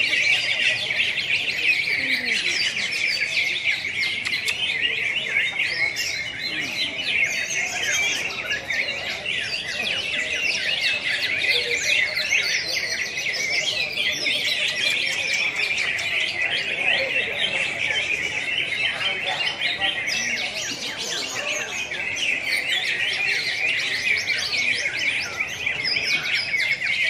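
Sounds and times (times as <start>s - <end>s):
birds chirping and whistling: 0.0s - 27.0s.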